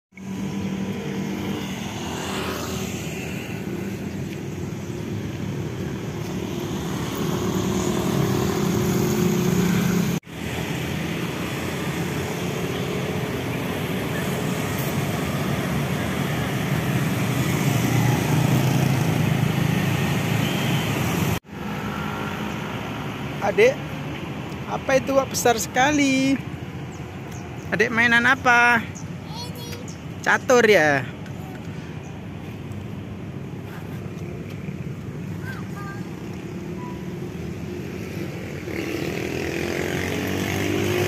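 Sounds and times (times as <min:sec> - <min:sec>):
motorbike engines passing: 0:00.2 - 0:29.2, 0:29.8 - 0:41.0.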